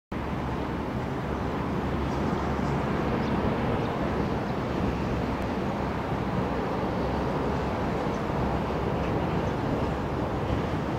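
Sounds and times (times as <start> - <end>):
distant jet rumble: 0.2 - 10.9.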